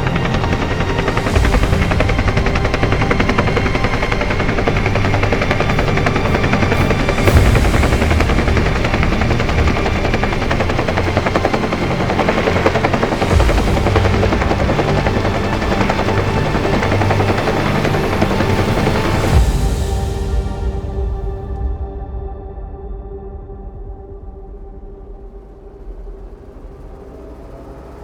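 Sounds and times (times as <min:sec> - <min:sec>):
helicopter rotor blades beating: 0:00.0 - 0:21.4, 0:25.0 - 0:28.0.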